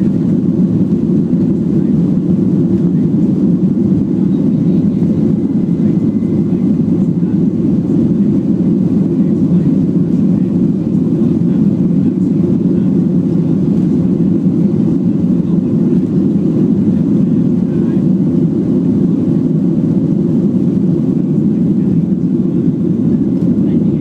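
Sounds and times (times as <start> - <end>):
jet engines deep rumble: 0.0 - 24.0.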